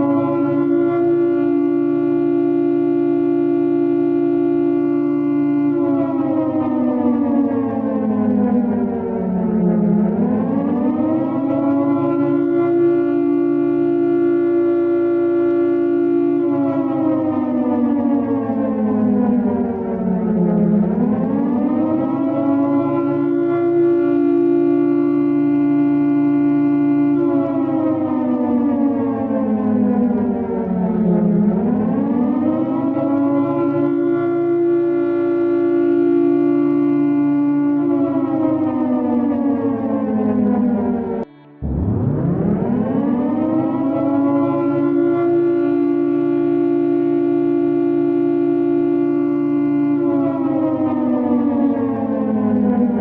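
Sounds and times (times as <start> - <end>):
warning siren wailing: 0.0 - 53.0.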